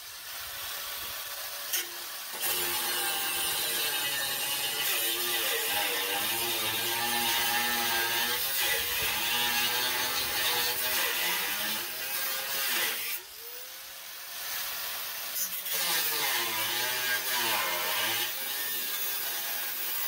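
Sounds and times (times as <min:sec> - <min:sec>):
angle grinder cutting metal: 0:00.0 - 0:20.0.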